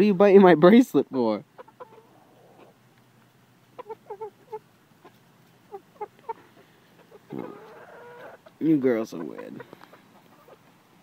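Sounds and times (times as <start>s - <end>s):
hens clucking: 1.2s - 11.0s.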